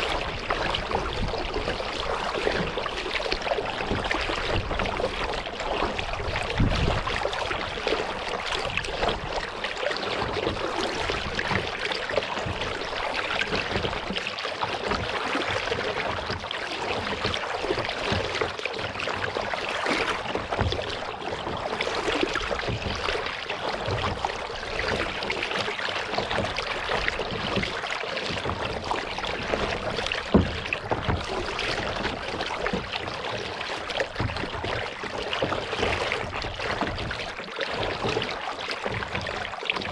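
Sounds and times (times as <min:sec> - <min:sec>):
low bumps on kayak hull: 0:00.0 - 0:39.9
paddle splashing water: 0:00.0 - 0:39.9.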